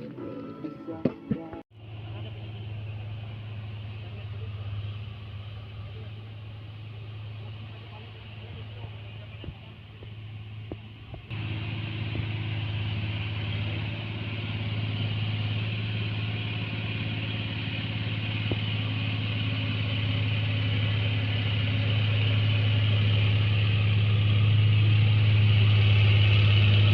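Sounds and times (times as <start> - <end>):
tracked machine engine humming: 0.0 - 26.9.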